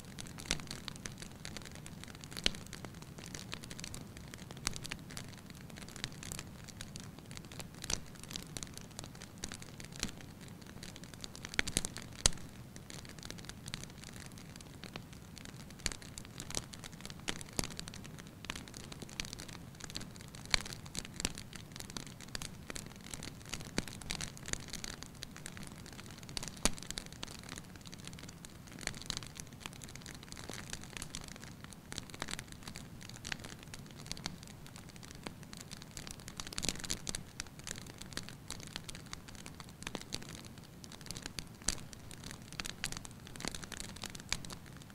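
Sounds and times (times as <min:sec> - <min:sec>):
wood fire crackling and popping: 0:00.1 - 0:44.9.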